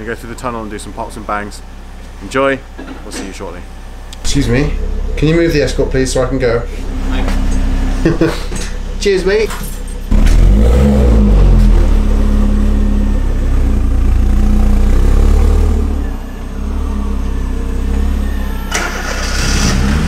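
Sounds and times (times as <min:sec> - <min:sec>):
car engine running at low revs: 0:03.5 - 0:20.0.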